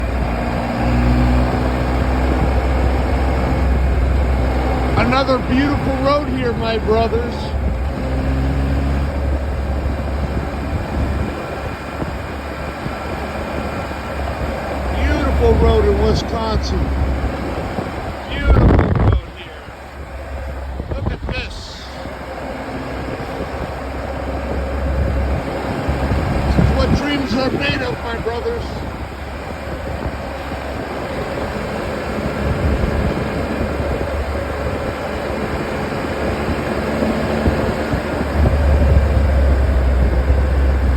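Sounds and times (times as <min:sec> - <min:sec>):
motorcycle engine rumble: 0:00.0 - 0:40.9
wind and road noise: 0:00.0 - 0:40.9.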